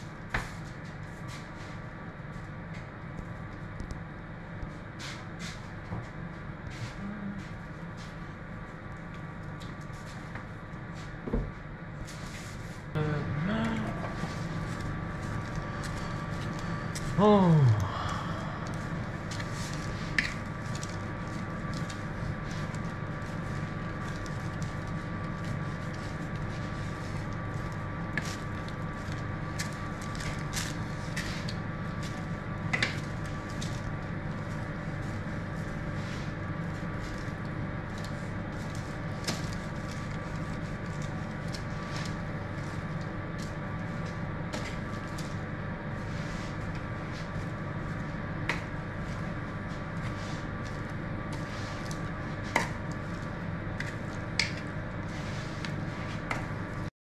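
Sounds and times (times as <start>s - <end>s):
bakery machine hum: 0.0s - 56.9s.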